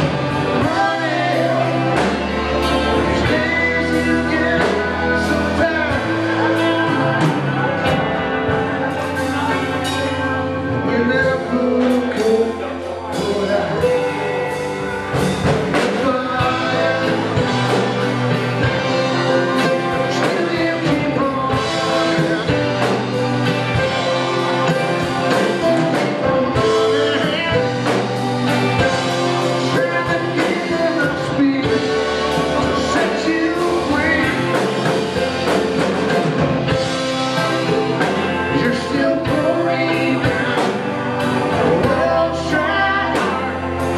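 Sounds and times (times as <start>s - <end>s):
drum kit: 0.0s - 43.9s
electric guitars: 0.0s - 43.9s
keyboard: 0.0s - 43.9s
person singing: 0.0s - 43.9s.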